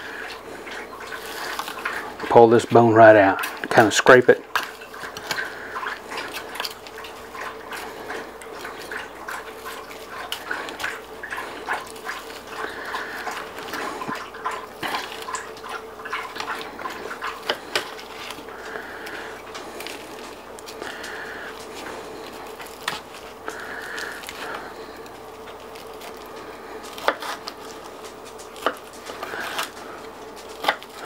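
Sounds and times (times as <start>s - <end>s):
steady hum: 0.0s - 31.0s
knife cutting raw chicken: 4.5s - 31.0s.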